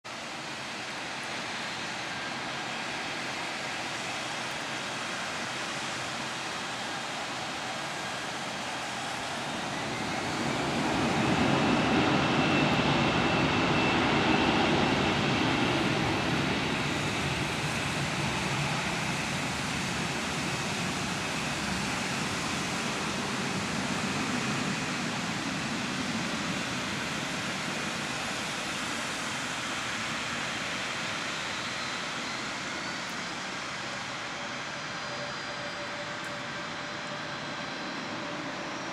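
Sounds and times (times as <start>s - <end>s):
jet engines roaring: 0.3s - 38.9s.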